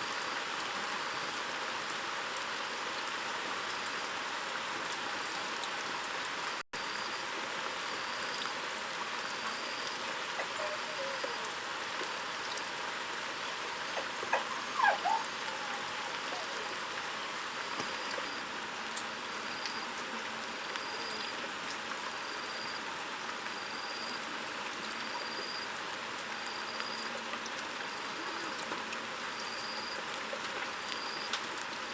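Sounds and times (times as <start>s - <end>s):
steady water noise: 0.0s - 31.9s.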